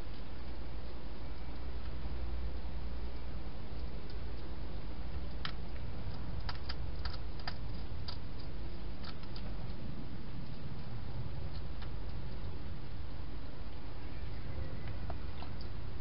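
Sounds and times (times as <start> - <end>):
low hum: 0.0 - 16.0
hedgehog eating clicks: 0.1 - 13.5.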